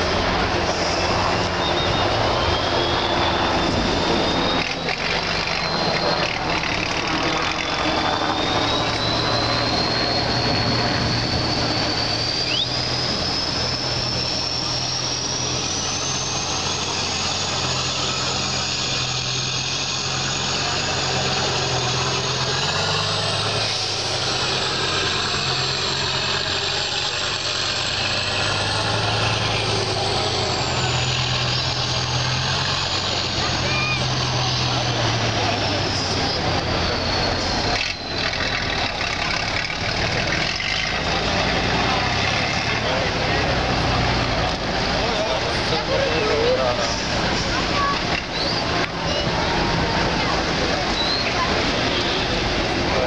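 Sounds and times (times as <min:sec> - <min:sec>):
high whine: 0:00.0 - 0:53.0
truck engine running under load: 0:00.0 - 0:53.0.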